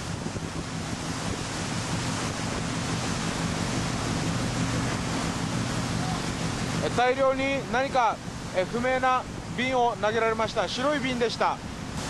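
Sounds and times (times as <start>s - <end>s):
wind and sea rush: 0.0s - 12.0s.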